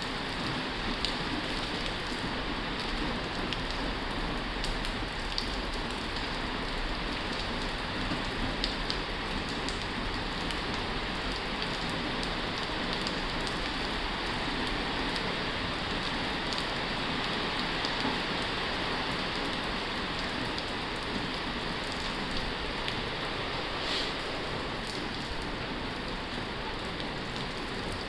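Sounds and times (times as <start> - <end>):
heavy rain on a tin roof: 0.0 - 28.0
raindrops ticking on metal: 0.2 - 23.7.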